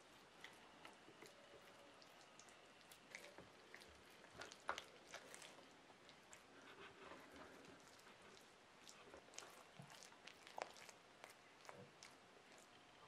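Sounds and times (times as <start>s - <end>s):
wet squishing of raw meat: 0.0s - 6.6s, 7.2s - 12.8s.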